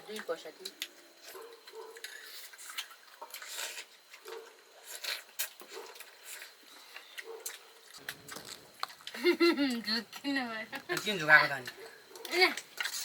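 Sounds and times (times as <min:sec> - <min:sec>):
chewing: 0:00.1 - 0:13.0.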